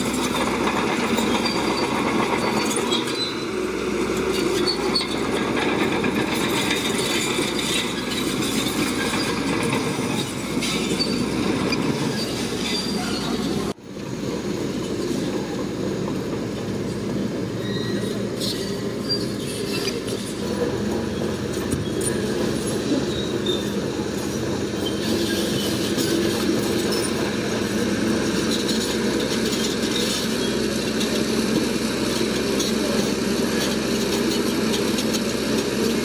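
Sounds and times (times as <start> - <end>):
diesel engine running: 0.0 - 36.0
steel tracks clattering: 0.0 - 36.0.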